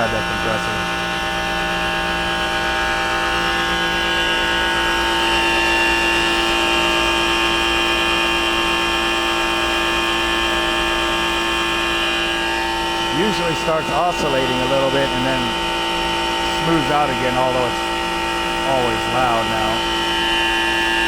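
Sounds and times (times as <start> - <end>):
compressor humming: 0.0 - 21.0
high whine: 0.0 - 21.0.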